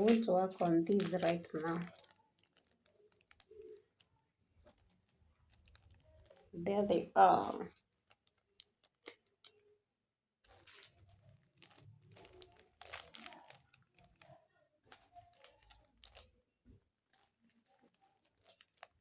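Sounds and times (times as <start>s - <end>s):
small clicks: 0.0s - 6.5s, 7.4s - 9.7s, 10.4s - 16.4s, 17.0s - 19.0s
packaging rustling and crinkling: 0.0s - 9.7s, 10.4s - 19.0s.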